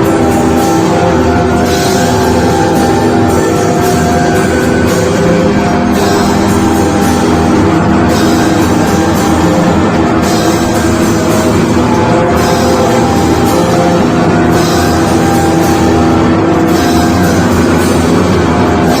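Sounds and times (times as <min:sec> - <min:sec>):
drums: 0:00.0 - 0:19.0
noise rock band playing: 0:00.0 - 0:19.0.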